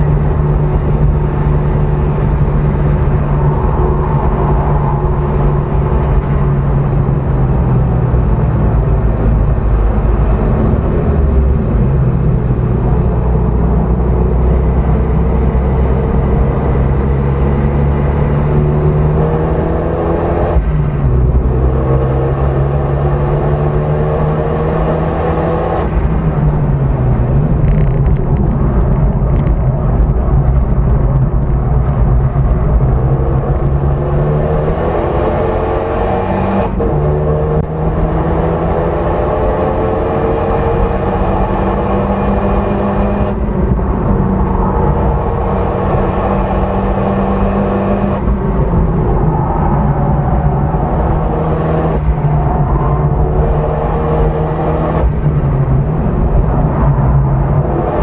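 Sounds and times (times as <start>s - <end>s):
car engine pulling hard: 0.0s - 58.0s
road and wind noise: 0.0s - 58.0s.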